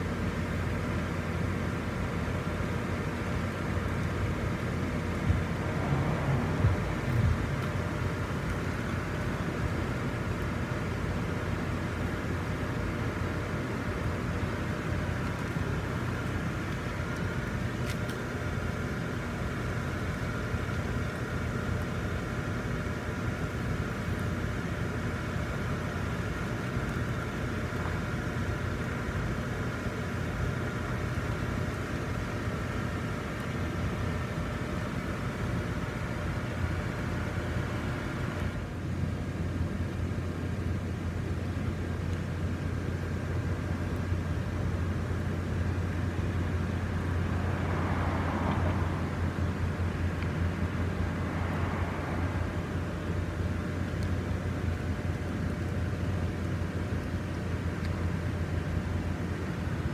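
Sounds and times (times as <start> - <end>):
blower fans humming: 0.0 - 59.9.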